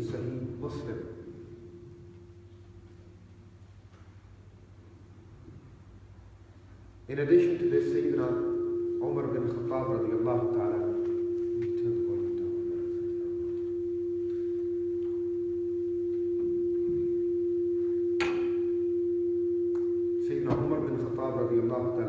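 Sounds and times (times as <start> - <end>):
steady single-pitched tone: 0.0 - 3.6, 7.3 - 22.0.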